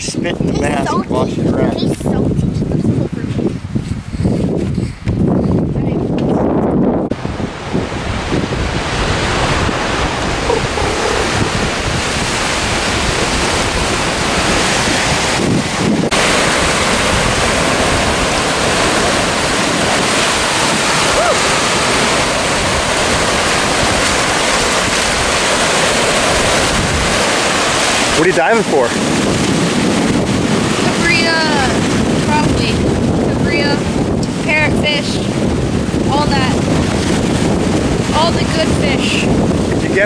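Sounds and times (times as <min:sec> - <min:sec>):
wind buffeting microphone: 0:00.0 - 0:40.0
surf breaking over rocks: 0:07.1 - 0:40.0.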